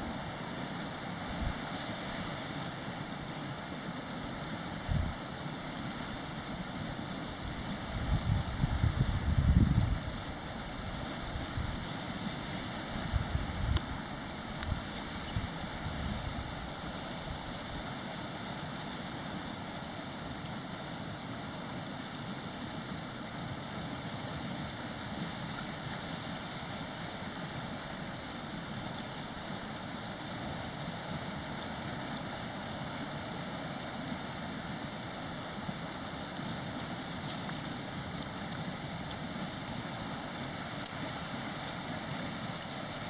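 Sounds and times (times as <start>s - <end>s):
rushing outdoor background noise: 0.0s - 43.0s.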